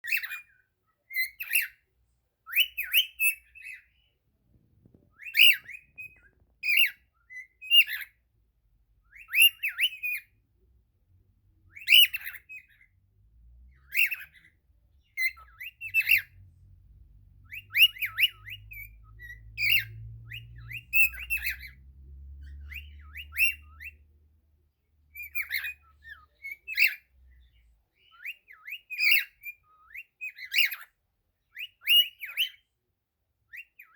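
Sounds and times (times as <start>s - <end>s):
cockatiel whistled chirps: 0.0s - 4.1s, 4.9s - 8.2s, 9.0s - 10.4s, 11.6s - 13.0s, 13.7s - 16.5s, 17.4s - 24.1s, 25.1s - 32.7s, 33.4s - 33.9s.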